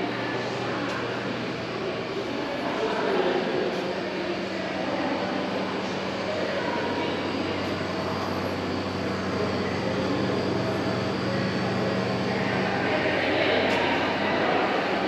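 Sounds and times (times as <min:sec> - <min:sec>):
machinery rushing hum: 0:00.0 - 0:15.0.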